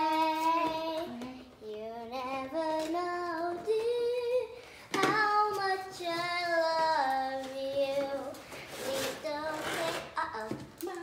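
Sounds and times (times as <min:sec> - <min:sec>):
child singing slow melody: 0:00.0 - 0:11.0.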